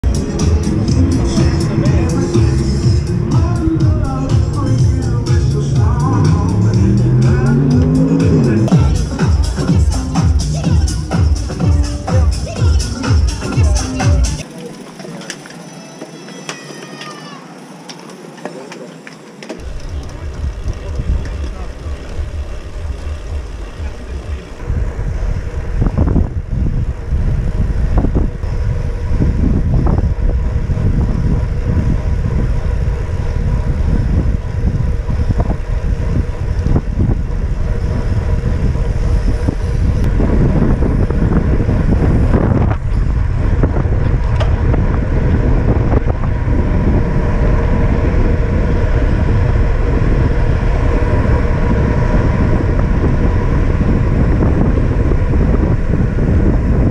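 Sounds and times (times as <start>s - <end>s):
wind rumbling on microphone: 0.0s - 14.5s, 19.6s - 56.9s.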